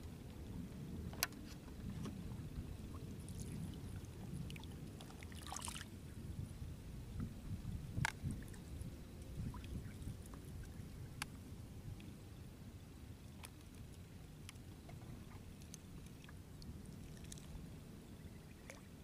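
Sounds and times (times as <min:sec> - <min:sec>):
low outdoor rumble: 0:00.0 - 0:19.0
small water sounds: 0:00.0 - 0:19.0.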